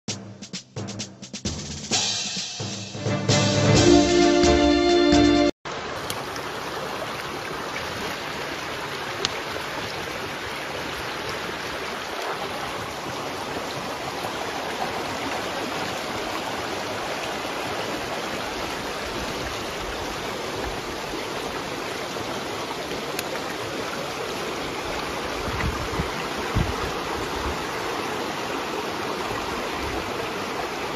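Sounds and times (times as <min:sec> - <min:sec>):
water rushing over rocks: 0:05.7 - 0:30.9.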